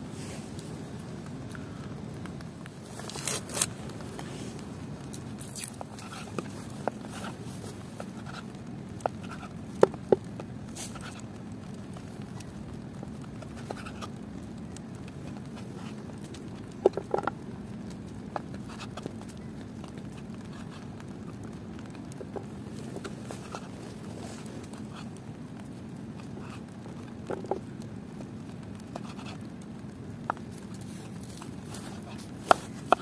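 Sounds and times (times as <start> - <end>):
steady low hiss: 0.0 - 33.0.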